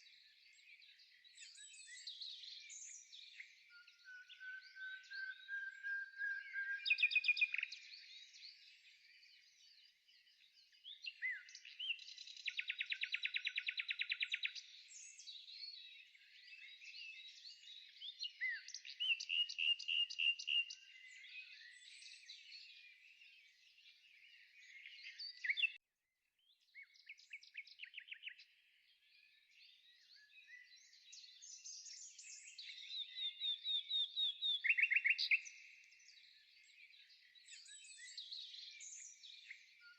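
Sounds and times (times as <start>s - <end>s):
songbirds singing: 0.0s - 25.8s, 26.4s - 39.9s.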